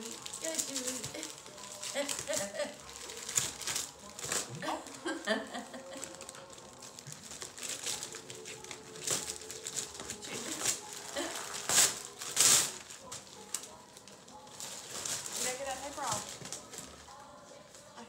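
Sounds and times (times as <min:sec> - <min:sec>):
wrapping paper crinkling and tearing: 0:00.0 - 0:18.0.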